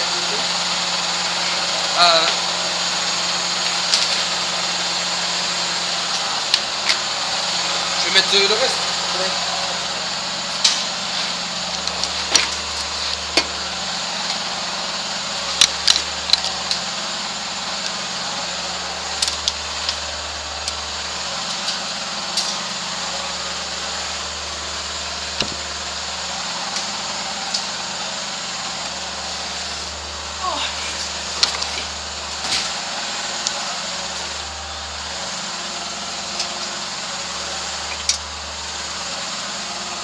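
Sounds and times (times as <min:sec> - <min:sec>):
laundry machine humming: 0:00.0 - 0:40.0.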